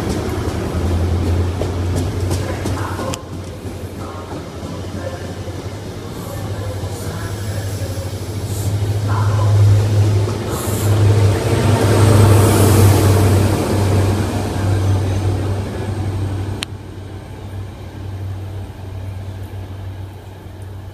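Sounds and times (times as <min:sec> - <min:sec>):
diesel locomotive engine: 0:00.0 - 0:20.9
train wheels rumbling on rails: 0:00.0 - 0:20.9.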